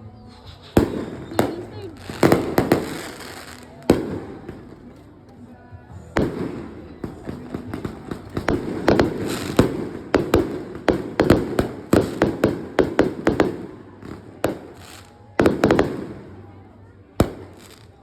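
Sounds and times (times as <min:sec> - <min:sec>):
fireworks bangs: 0:00.0 - 0:05.1, 0:06.1 - 0:18.0.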